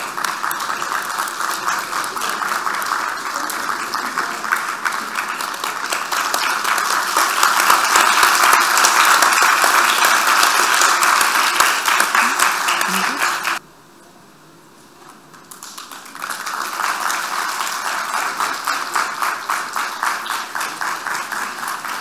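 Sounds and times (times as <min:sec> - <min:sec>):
audience applauding: 0:00.0 - 0:13.6, 0:15.4 - 0:22.0.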